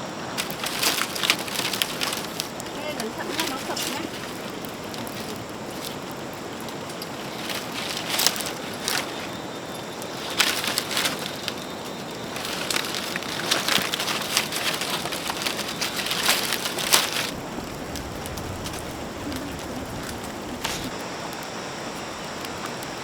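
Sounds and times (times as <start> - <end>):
fire crackling and popping: 0.0 - 23.0
steady hiss: 0.0 - 23.0.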